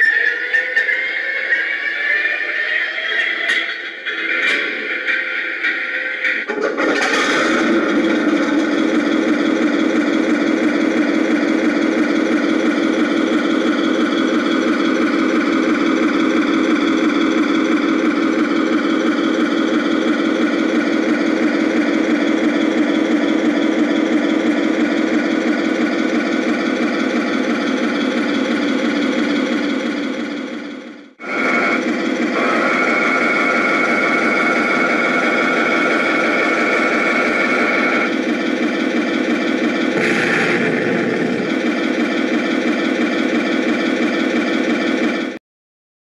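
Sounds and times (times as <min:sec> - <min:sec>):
simulated tank engine through small speaker: 0:00.0 - 0:45.4.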